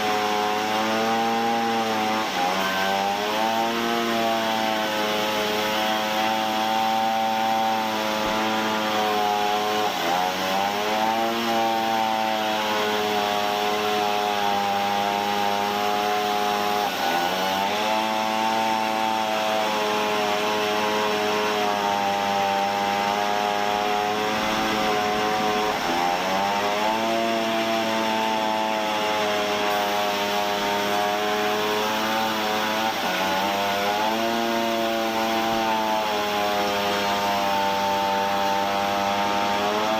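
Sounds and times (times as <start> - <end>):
sawmill saw machinery humming: 0.0 - 39.9.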